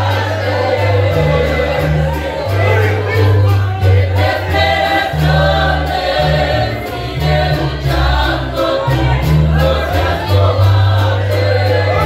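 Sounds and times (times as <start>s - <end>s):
bass line: 0.0s - 12.0s
choir singing a hymn: 0.0s - 12.0s
strummed acoustic guitars: 0.0s - 12.0s.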